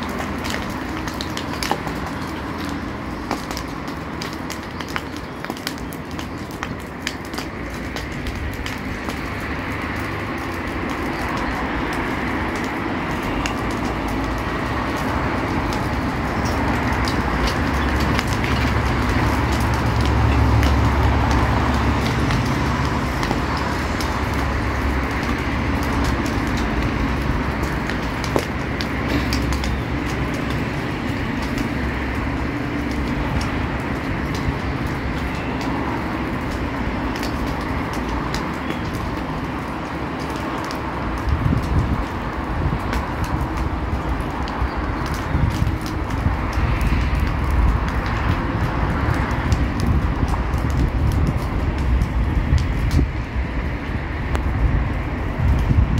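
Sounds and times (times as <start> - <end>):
brush fire crackling: 0.0 - 55.9
low fire rumble: 0.0 - 55.9.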